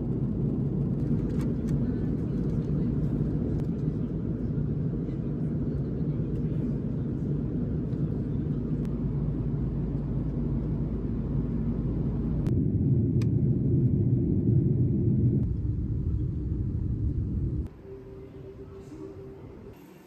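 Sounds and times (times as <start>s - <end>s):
steady low rumble: 0.0s - 19.8s.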